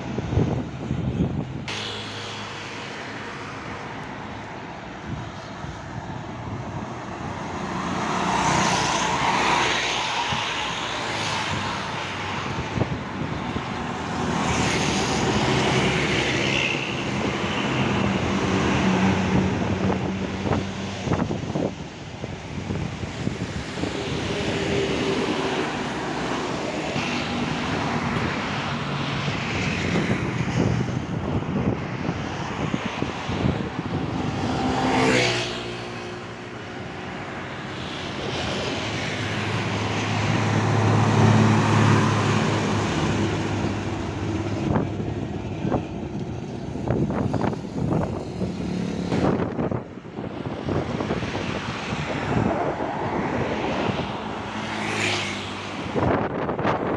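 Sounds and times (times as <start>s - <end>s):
heavy vehicle engine drone: 0.0s - 34.7s, 35.4s - 54.7s
highway traffic passing: 0.0s - 56.9s
vehicle rushing past: 0.3s - 56.9s.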